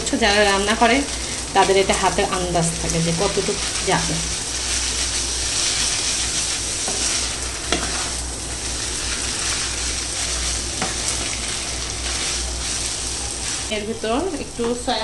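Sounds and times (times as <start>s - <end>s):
noodles sizzling in a pan: 0.0s - 15.0s.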